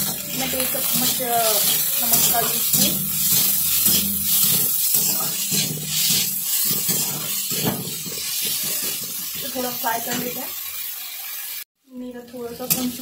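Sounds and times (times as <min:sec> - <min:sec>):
metal spatula scraping pan: 0:00.0 - 0:11.6, 0:12.2 - 0:13.0
onions sizzling in hot oil: 0:00.0 - 0:13.0.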